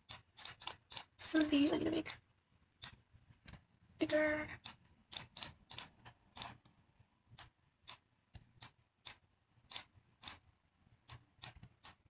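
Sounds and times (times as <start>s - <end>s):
computer mouse clicking: 0.0s - 2.2s, 2.8s - 6.7s, 7.3s - 10.4s, 11.0s - 12.0s.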